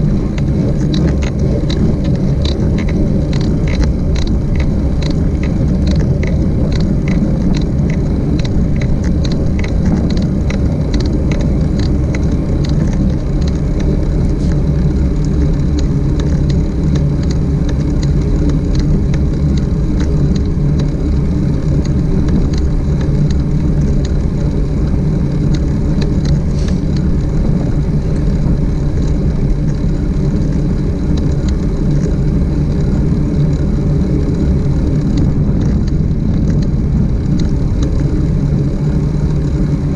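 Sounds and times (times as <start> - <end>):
wind and road noise from bike: 0.0 - 39.9.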